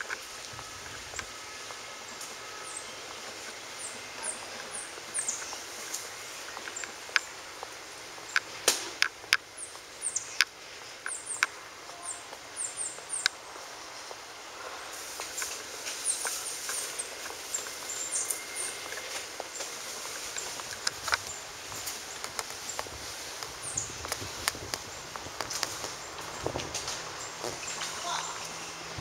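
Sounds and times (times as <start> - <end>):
faint outdoor background: 0.0 - 29.0
small birds chirping: 0.0 - 29.0.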